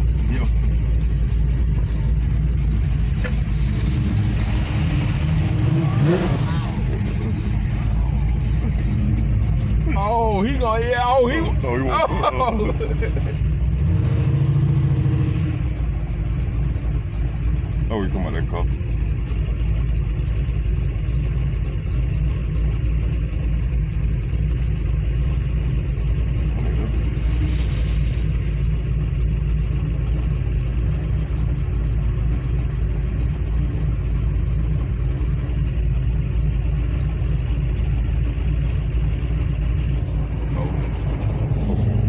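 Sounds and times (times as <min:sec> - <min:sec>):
car cabin engine and road noise: 0:00.0 - 0:42.0.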